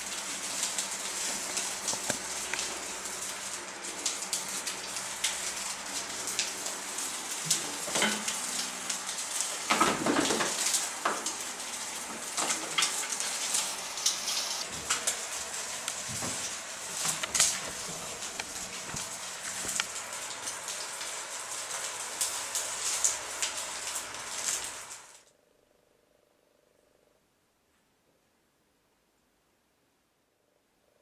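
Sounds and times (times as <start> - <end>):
ribbons fluttering in fan airflow: 0.0 - 25.3.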